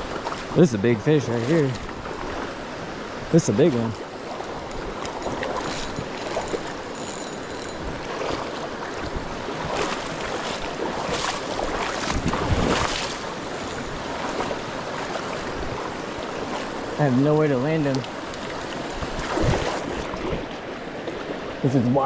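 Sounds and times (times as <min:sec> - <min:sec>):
river water rushing: 0:00.0 - 0:22.0
wind buffeting microphone: 0:01.5 - 0:16.9, 0:18.1 - 0:20.7.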